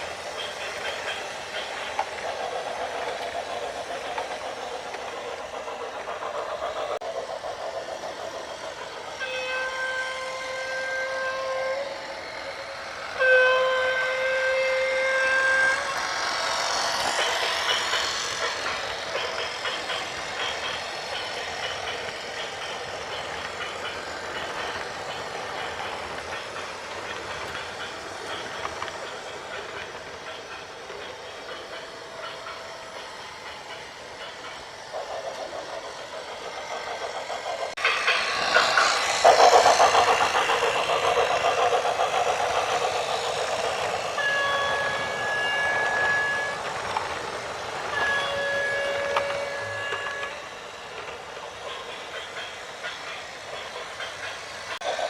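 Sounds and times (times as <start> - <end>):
rushing hiss: 0.0 - 55.0.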